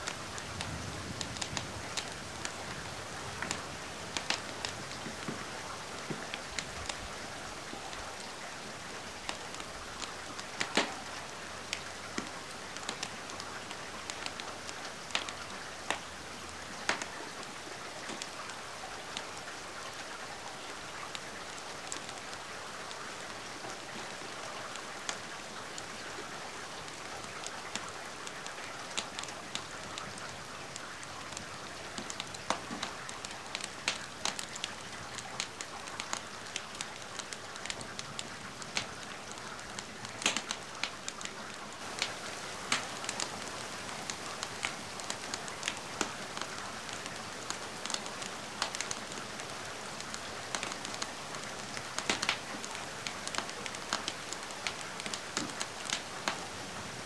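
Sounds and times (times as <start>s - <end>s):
wood fire crackling and popping: 0.0s - 16.1s, 16.8s - 18.3s, 27.0s - 57.0s
steady rain falling: 0.0s - 57.0s.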